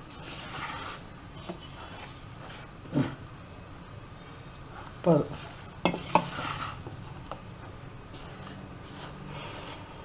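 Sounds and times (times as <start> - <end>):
spoon scraping flour in saucepan: 0.0 - 3.2, 4.8 - 10.0.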